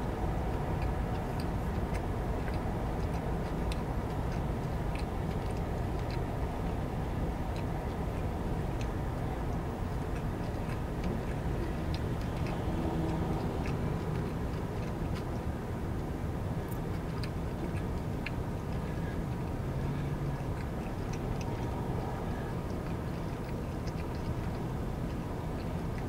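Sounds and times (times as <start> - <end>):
light clicks and ticks: 0.0 - 26.0.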